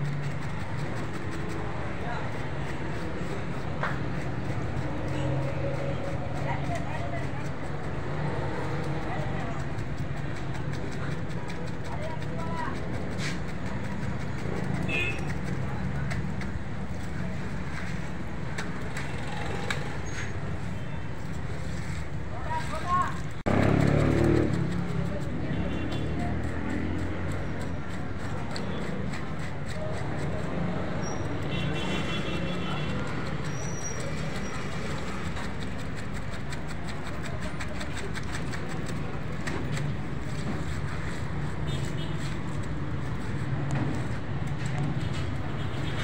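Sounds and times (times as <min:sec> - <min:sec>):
street traffic rumble: 0:00.0 - 0:46.0.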